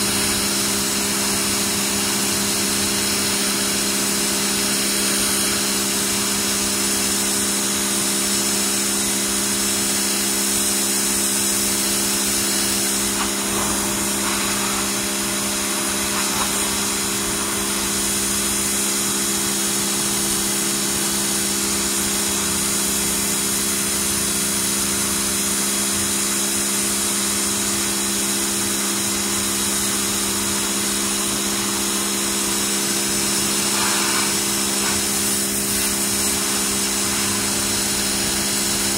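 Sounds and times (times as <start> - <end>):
pressure washer motor humming: 0.0 - 38.9
spray jet hissing on concrete: 0.0 - 38.9.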